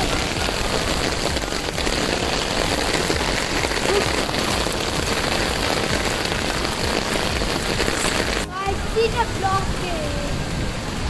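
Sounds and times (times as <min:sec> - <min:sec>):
rain on wet asphalt: 0:00.0 - 0:11.0.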